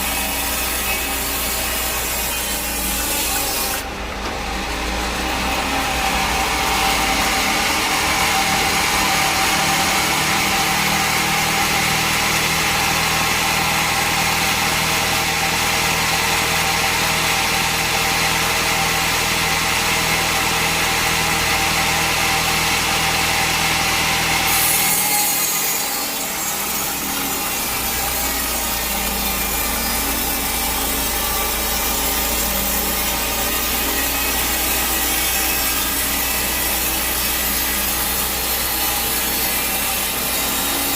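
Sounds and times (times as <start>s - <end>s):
bandsaw cutting through log: 0.0s - 40.9s.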